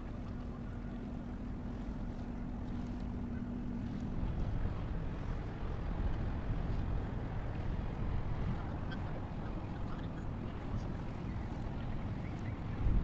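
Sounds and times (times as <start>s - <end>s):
ship diesel engine rumble: 0.0s - 13.0s
wind buffeting microphone: 1.6s - 13.0s.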